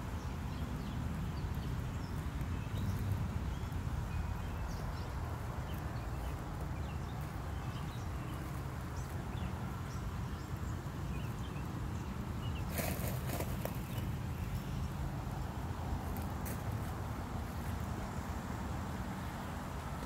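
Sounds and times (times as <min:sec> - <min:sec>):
birds chirping: 0:00.0 - 0:17.8.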